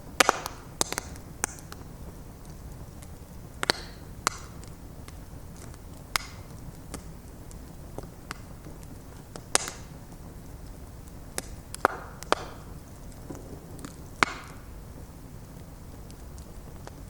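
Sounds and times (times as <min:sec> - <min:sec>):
bonfire flames rumbling: 0:00.0 - 0:17.0
wood crackling and popping: 0:00.0 - 0:17.0.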